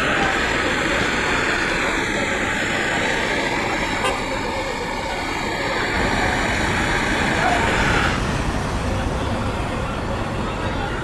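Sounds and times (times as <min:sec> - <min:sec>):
street traffic roar: 0:00.0 - 0:11.0.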